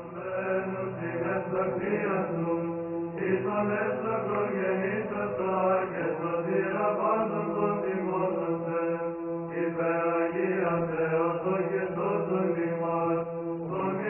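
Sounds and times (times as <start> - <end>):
low held drone: 0.0 - 14.0.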